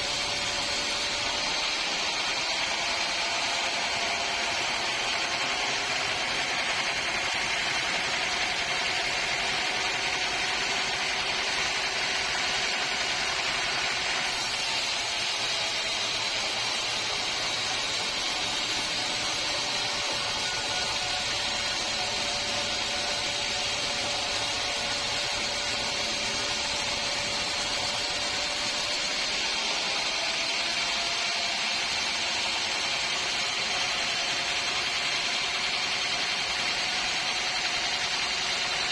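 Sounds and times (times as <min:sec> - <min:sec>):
band saw machine running: 0:00.0 - 0:38.9.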